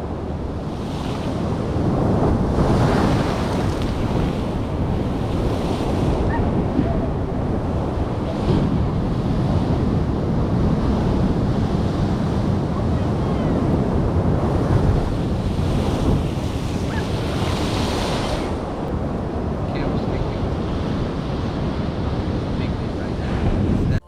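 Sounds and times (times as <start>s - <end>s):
ocean surf: 0.0s - 24.0s
wind buffeting microphone: 0.0s - 24.0s.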